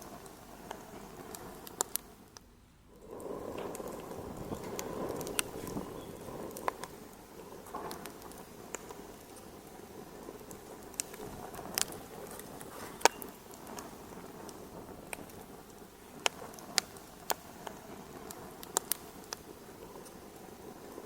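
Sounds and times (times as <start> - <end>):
soft steady hiss: 0.0 - 21.0
wood fire crackling: 0.0 - 21.0.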